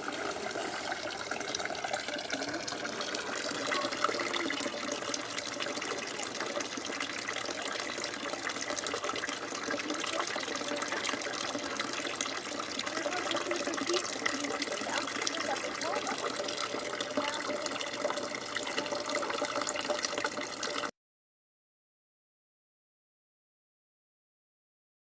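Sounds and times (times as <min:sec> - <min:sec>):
water pouring into bamboo tube: 0:00.0 - 0:20.9.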